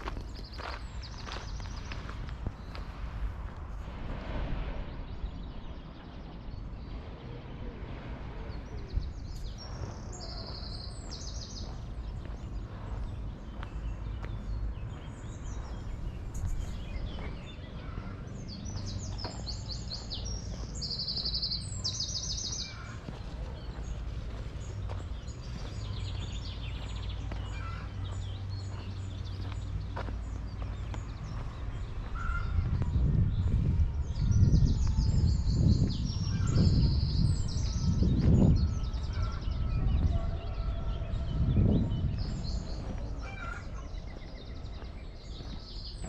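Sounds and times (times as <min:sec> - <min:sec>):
low outdoor rumble: 0:00.0 - 0:46.0
small songbird singing: 0:08.5 - 0:46.0.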